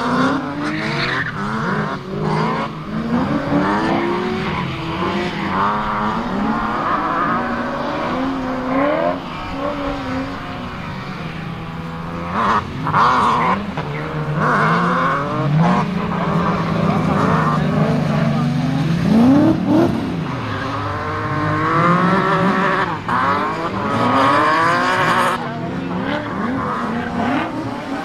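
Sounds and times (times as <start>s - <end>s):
car engine revving hard: 0.0s - 28.0s
tyres skidding on wet tarmac: 0.0s - 28.0s.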